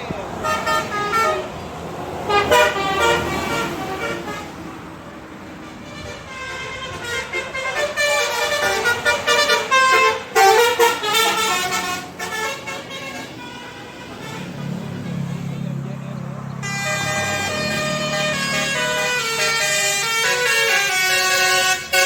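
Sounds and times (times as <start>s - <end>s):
multi-tone air horn melody: 0.4s - 1.6s, 2.2s - 15.8s, 16.6s - 22.0s.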